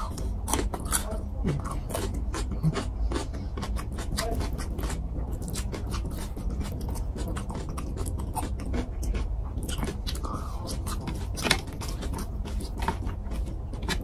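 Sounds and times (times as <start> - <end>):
steady low hum: 0.0 - 14.0
wet chewing and lip smacking: 0.0 - 14.0.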